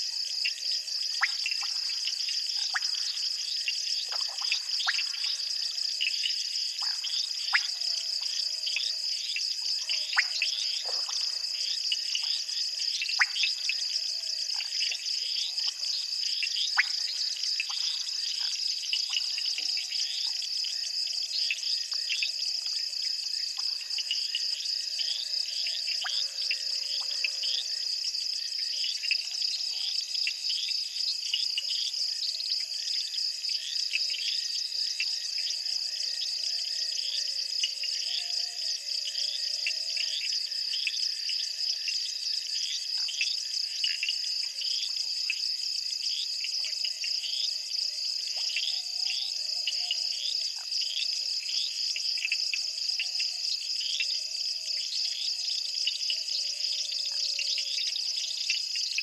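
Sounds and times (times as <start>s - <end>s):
insect chirps: 0.0s - 59.0s
insects trilling: 0.0s - 59.0s.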